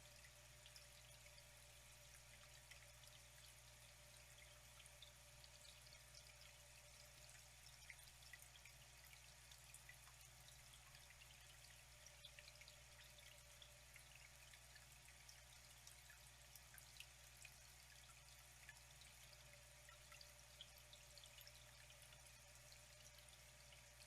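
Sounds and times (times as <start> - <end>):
small drips and splashes: 0.0 - 24.0
water trickling: 0.0 - 24.0.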